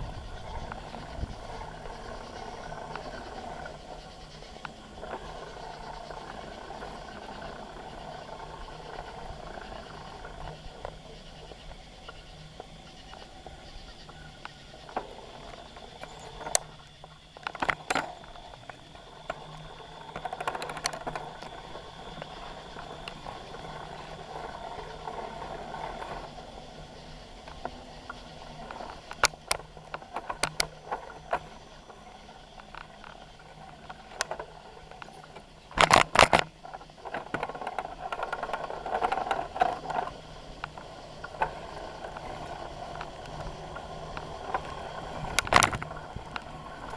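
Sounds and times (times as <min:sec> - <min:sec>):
bicycle rolling over rough path: 0:00.0 - 0:46.9
rattles and clacks over bumps: 0:00.0 - 0:46.9.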